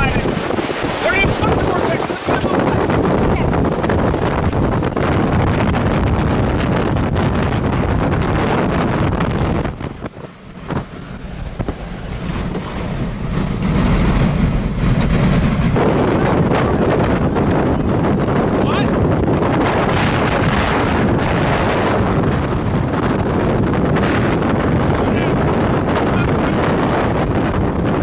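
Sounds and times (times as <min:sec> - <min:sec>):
strong wind blasting microphone: 0:00.0 - 0:28.0.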